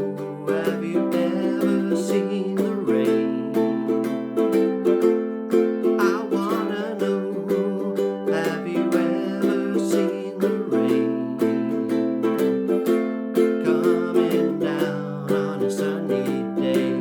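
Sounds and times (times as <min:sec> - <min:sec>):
ukulele strumming chords: 0:00.0 - 0:17.0.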